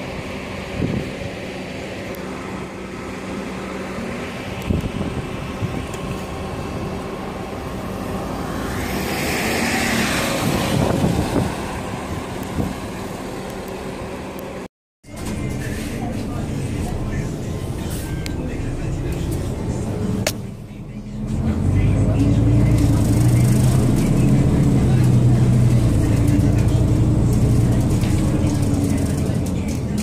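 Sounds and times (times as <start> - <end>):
bus engines running: 0.0 - 30.0.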